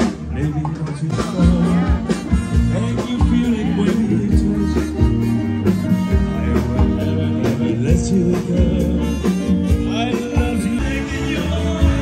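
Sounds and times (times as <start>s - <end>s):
drums keeping a steady beat: 0.0s - 12.0s
electric guitar: 0.0s - 12.0s
live band music: 0.0s - 12.0s
person singing: 0.3s - 12.0s.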